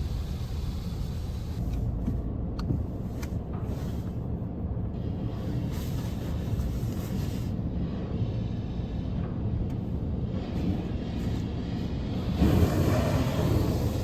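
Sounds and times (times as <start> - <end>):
car engine rumble inside cabin: 0.0 - 14.0.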